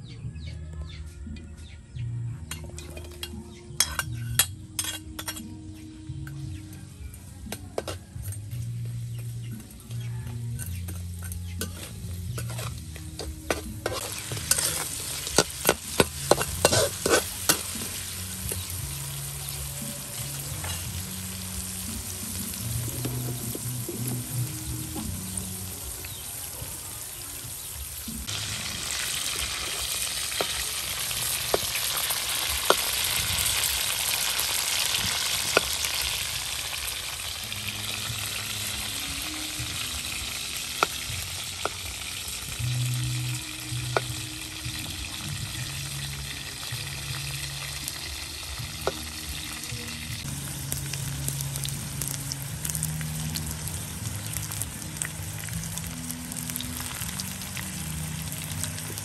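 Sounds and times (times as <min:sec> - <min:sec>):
beetles sizzling in hot oil: 0:08.0 - 0:59.0.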